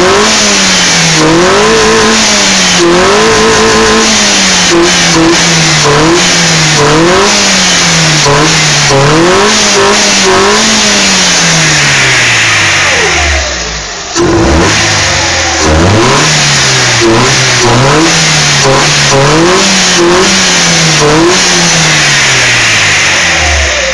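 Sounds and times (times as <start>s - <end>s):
car engine revving in blips: 0.0s - 23.9s.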